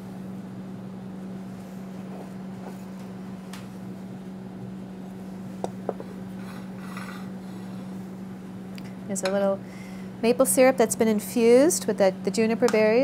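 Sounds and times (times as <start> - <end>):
low hum of kitchen equipment: 0.0 - 13.0.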